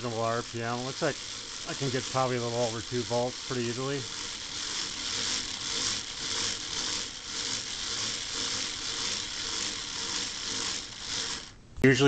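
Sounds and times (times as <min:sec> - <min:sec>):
hand-cranked motor gears whirring: 0:00.0 - 0:11.6.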